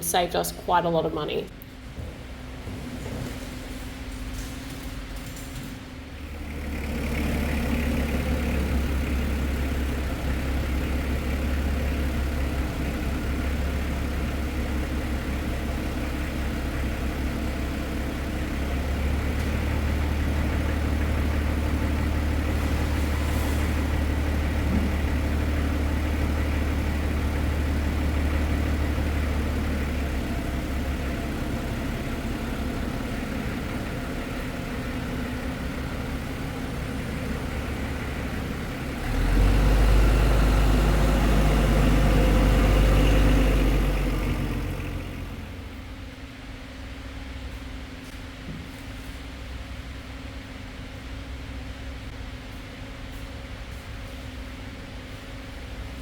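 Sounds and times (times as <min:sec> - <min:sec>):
large engine droning: 0:00.0 - 0:46.2.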